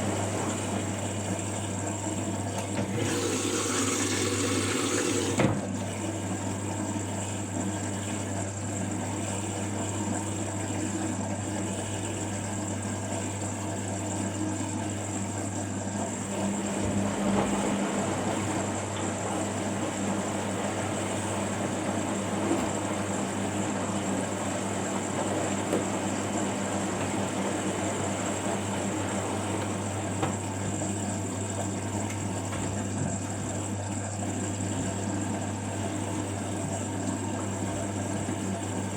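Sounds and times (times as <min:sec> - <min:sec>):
washing machine whirring: 0:00.0 - 0:38.9.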